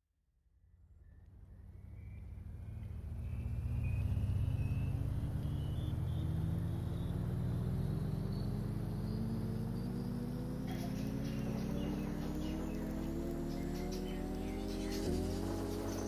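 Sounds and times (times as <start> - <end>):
engine running rising in pitch: 0.8 - 16.0.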